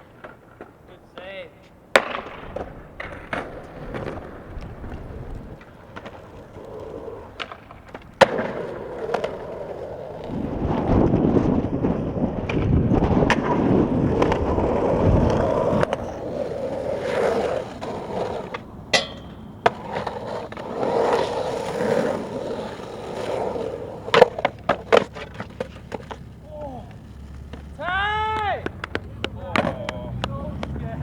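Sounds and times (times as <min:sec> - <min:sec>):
skateboard clacking on ground: 0:00.0 - 0:31.0
skateboard wheels rumbling: 0:00.0 - 0:31.0.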